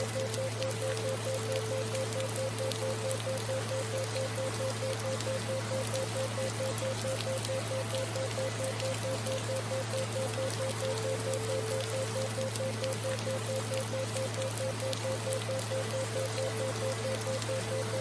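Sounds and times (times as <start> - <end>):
low steady drone: 0.0 - 18.0
rain: 0.0 - 18.0.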